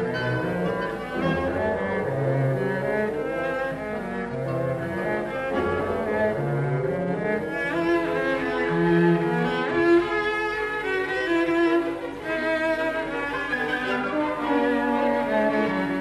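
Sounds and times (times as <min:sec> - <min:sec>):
orchestral strings: 0:00.0 - 0:16.0
solo cello: 0:00.0 - 0:16.0.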